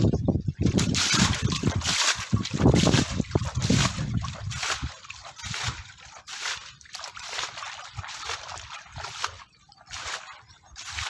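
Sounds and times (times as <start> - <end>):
shallow water sloshing and splashing: 0.0 - 11.0.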